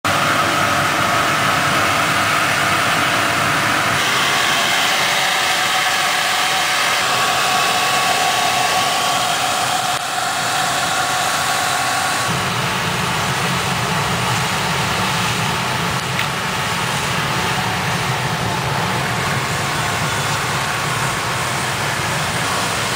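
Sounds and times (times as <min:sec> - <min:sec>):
gas burner firing with blower: 0:00.1 - 0:22.9.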